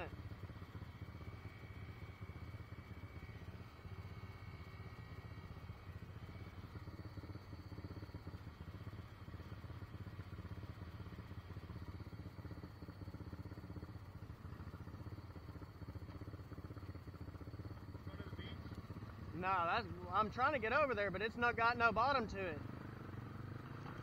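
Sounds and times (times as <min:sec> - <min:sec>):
atv engine running low revs: 0:00.0 - 0:24.0.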